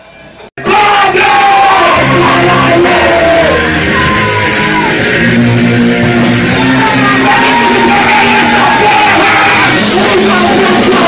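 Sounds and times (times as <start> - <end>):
person shouting singing: 0.6 - 5.0, 6.5 - 11.0
punk rock band playing: 0.6 - 11.0.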